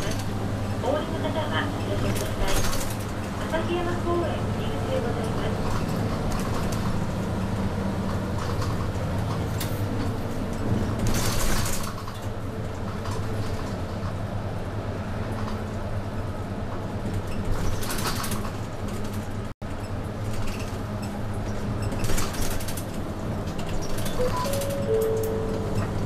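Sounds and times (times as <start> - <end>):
bus engine drone: 0.0 - 26.0
road and tyre noise: 0.0 - 26.0.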